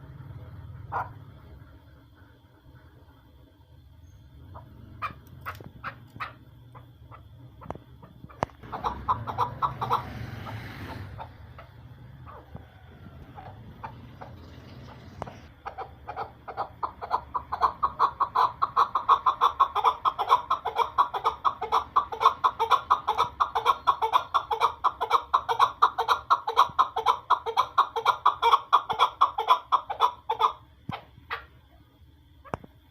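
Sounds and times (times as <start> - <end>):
partridge clucking call: 4.5 - 31.7.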